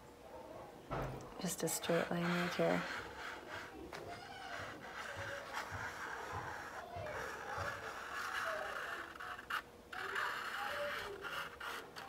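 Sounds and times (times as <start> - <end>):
marker scratching on paper plate: 1.4 - 12.0.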